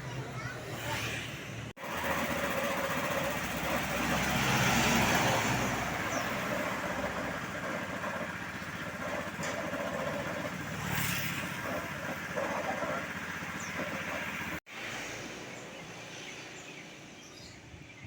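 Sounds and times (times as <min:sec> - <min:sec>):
heavy vehicle engine passing: 0:00.0 - 0:15.6
traffic rumble: 0:00.0 - 0:17.8.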